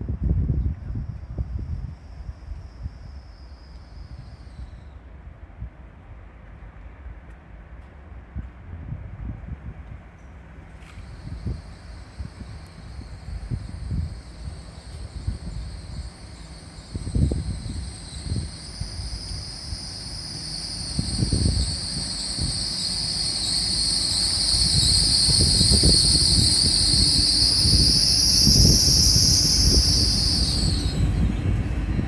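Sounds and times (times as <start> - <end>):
train rumble: 0.0 - 32.0
train wheels squealing: 0.4 - 7.2, 10.2 - 32.0.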